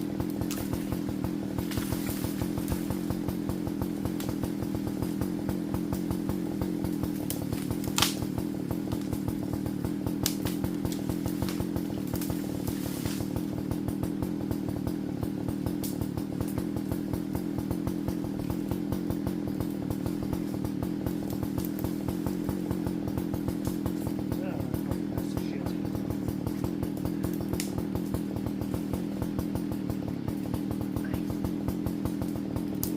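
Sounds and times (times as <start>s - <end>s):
chainsaw running: 0.0s - 32.9s.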